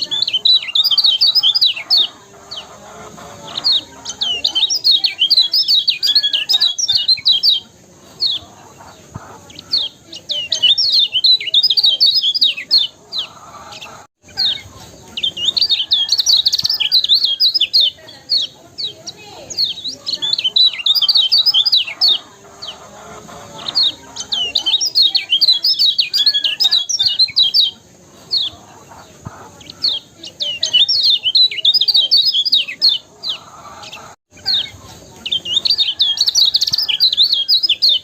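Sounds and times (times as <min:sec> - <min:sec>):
white-eye bird chirping: 0:00.0 - 0:38.0.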